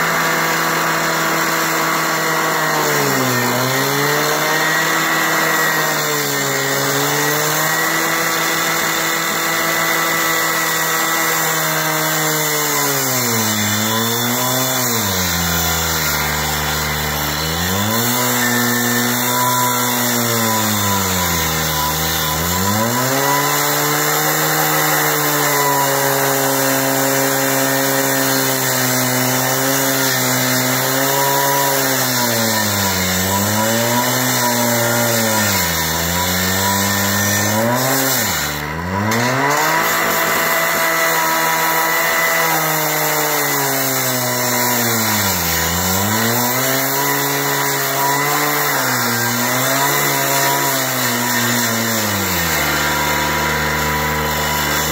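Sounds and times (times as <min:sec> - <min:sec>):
cut-off saw engine revving: 0:00.0 - 0:54.9
cutting wheel grinding steel pipe: 0:00.0 - 0:54.9.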